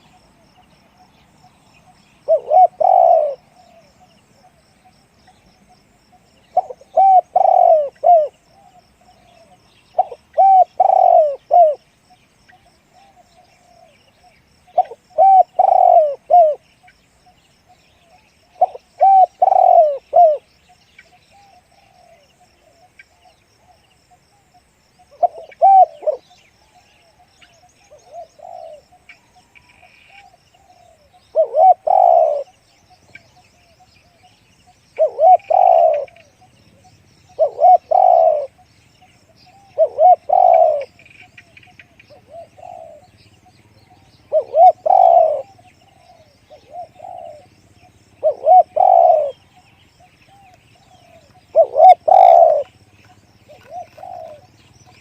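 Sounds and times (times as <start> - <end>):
dove cooing: 1.8 - 4.6, 6.5 - 11.9, 12.6 - 16.7, 18.0 - 23.8, 25.0 - 34.3, 34.9 - 38.7, 39.3 - 55.0.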